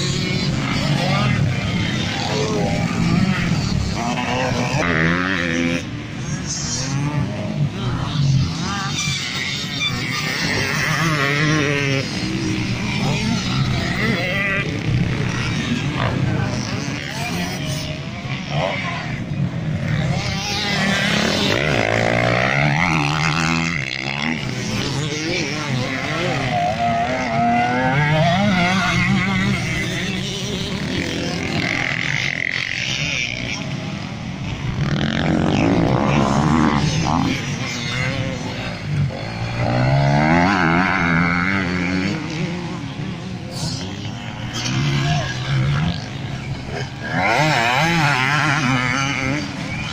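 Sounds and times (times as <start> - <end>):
distant race bikes: 0.0 - 49.9
motocross bike engine revving: 0.0 - 49.9.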